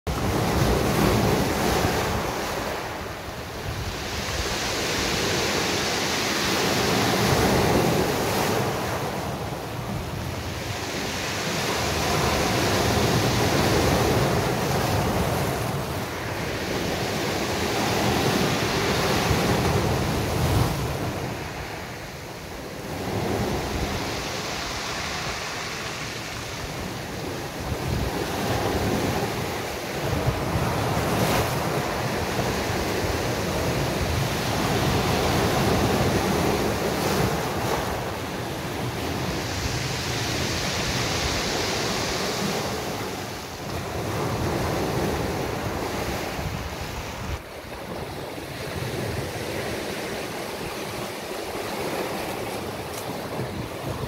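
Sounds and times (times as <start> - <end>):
sea waves breaking on beach: 0.1 - 54.0
wind buffeting microphone: 0.1 - 54.0.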